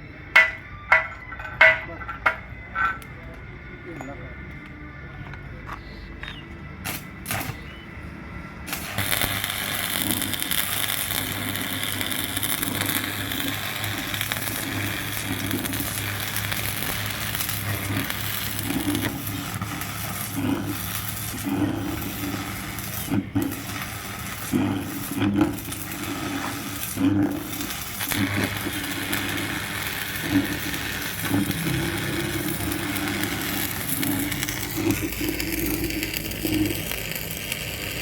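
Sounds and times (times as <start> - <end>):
workshop machine humming: 0.0 - 38.0.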